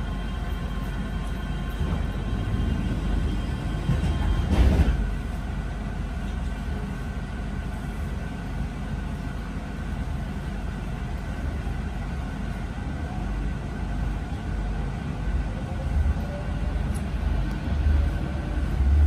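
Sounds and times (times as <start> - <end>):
train rumbling inside carriage: 0.0 - 19.0.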